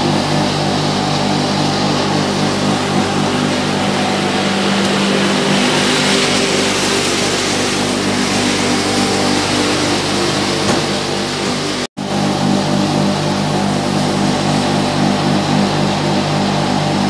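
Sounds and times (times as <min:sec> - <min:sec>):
mill machinery drone: 0:00.0 - 0:17.0.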